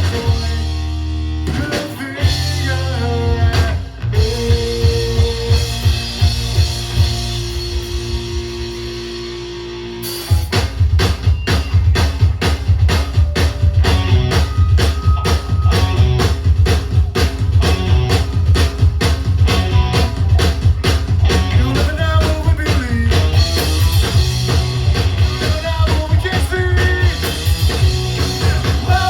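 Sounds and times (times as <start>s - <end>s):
ringing guitar chords: 0.0s - 29.0s
rock band playing: 0.0s - 29.0s.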